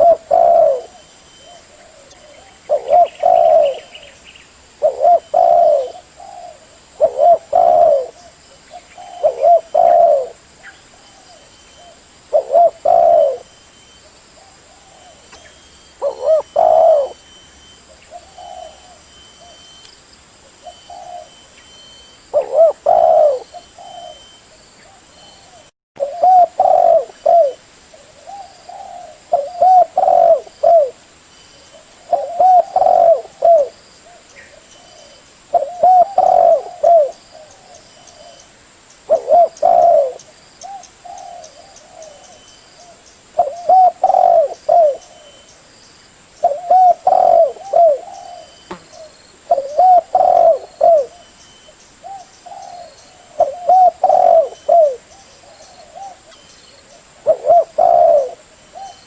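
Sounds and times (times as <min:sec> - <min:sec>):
dove cooing: 0:00.0 - 0:04.2, 0:04.8 - 0:13.6, 0:14.4 - 0:19.6, 0:20.5 - 0:31.0, 0:31.6 - 0:38.4, 0:39.1 - 0:45.5, 0:46.4 - 0:59.0
faint dove coos: 0:00.0 - 0:04.2, 0:04.8 - 0:19.8, 0:20.5 - 0:31.0, 0:31.6 - 0:38.5, 0:39.1 - 0:45.5, 0:46.4 - 0:59.0.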